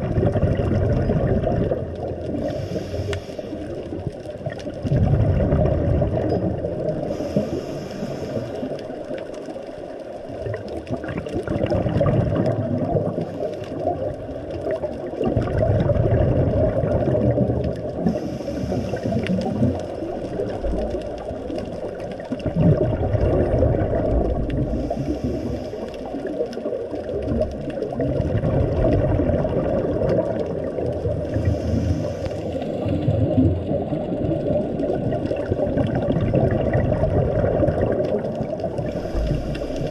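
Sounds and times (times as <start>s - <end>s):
underwater sloshing and rumbling: 0.0s - 39.9s.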